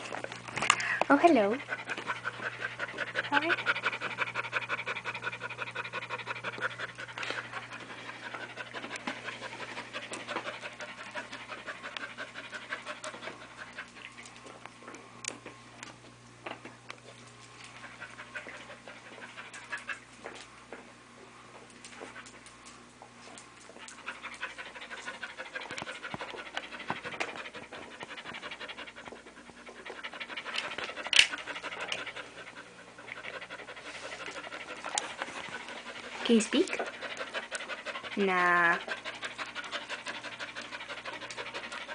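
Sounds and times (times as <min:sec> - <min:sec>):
dog panting: 0:01.1 - 0:14.5, 0:17.6 - 0:20.1, 0:23.7 - 0:41.9.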